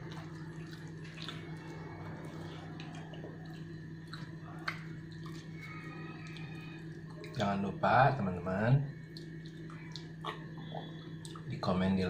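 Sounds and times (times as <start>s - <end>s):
wet squishing of fingers in food: 0.0s - 7.6s, 8.9s - 11.6s
steady low hum: 0.0s - 12.0s.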